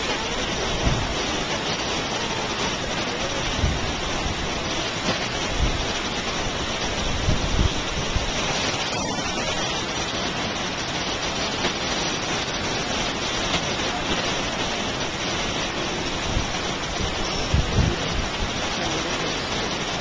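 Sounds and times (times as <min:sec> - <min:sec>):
waterfall rushing: 0:00.0 - 0:20.0
wind: 0:00.0 - 0:20.0.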